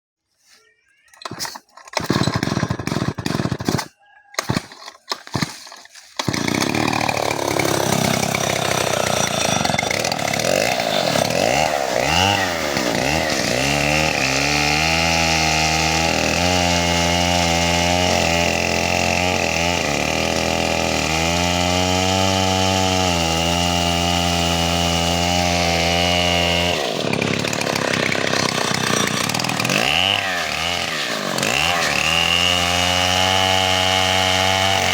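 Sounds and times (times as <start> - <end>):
chainsaw cutting a tree: 1.2 - 34.9.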